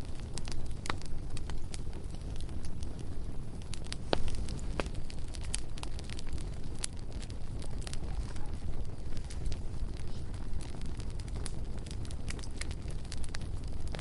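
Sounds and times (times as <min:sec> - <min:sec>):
bonfire rumble: 0:00.0 - 0:14.0
fire crackles and pops: 0:00.0 - 0:14.0.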